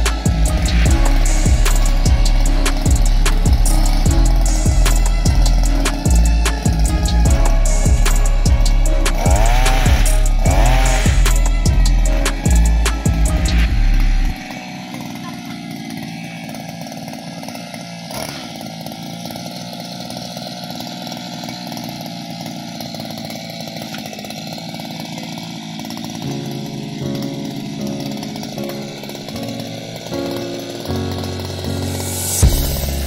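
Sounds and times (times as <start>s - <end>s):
petrol pole cutter running: 0.0s - 33.0s.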